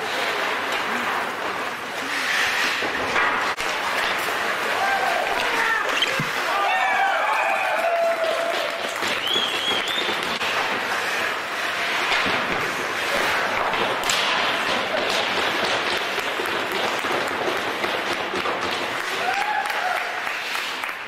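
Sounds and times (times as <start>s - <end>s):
crowd noise: 0.0s - 21.0s
hockey sticks and puck cracking: 0.0s - 21.0s.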